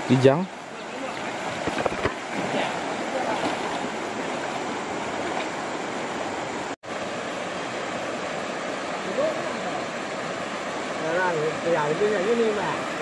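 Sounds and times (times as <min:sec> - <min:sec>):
stream running over stones: 0:00.0 - 0:13.0.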